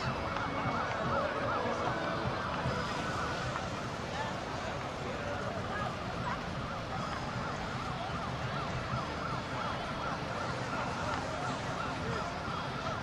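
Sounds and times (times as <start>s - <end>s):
background rushing noise: 0.0s - 13.0s.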